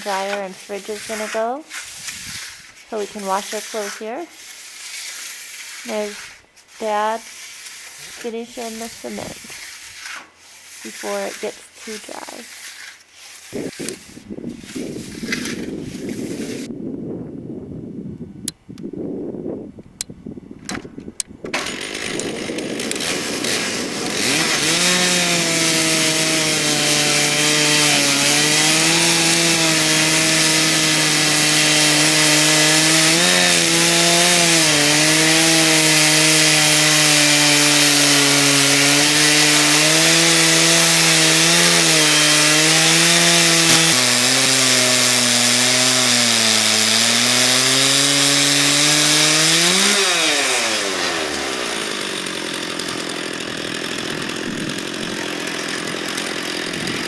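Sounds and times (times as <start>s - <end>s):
chainsaw cutting wood: 0.0s - 16.7s, 21.4s - 57.0s.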